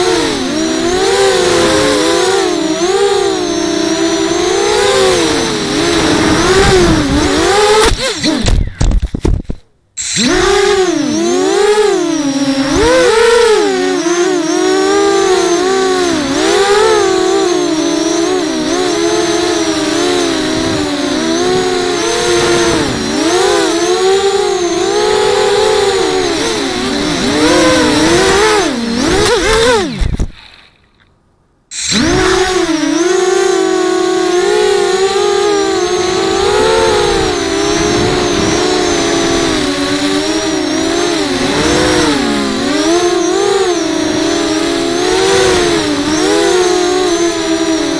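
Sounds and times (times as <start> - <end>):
drone motors whining: 0.0 - 31.1, 31.7 - 47.9.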